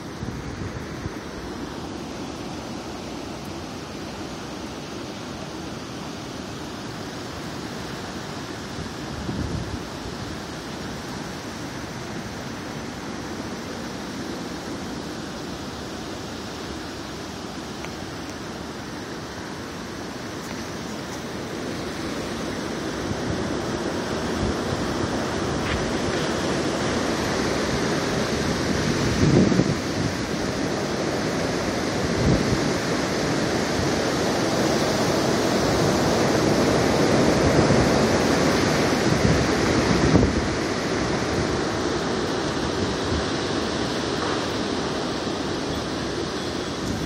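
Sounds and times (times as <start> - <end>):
low wind buffets: 0.0 - 47.0
wind and surf rushing: 0.0 - 47.0.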